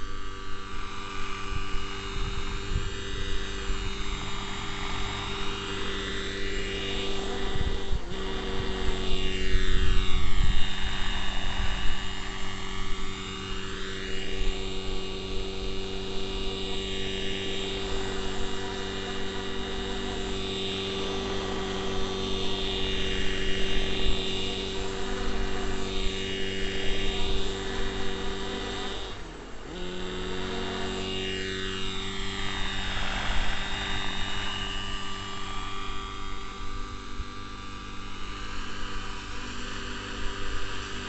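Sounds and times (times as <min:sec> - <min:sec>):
model helicopter engine drone: 0:00.0 - 0:41.0
rotor blades whooshing: 0:00.8 - 0:37.4.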